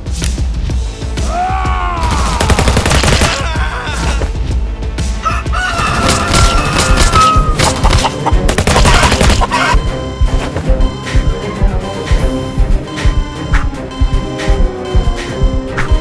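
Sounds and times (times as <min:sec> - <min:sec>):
background music with steady tones: 0:00.0 - 0:16.0.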